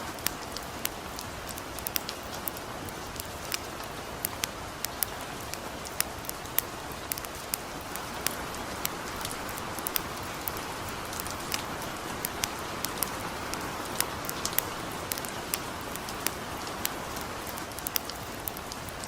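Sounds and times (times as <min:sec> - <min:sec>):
light rain pattering: 0:00.0 - 0:19.0
wood fire crackling: 0:00.0 - 0:19.0.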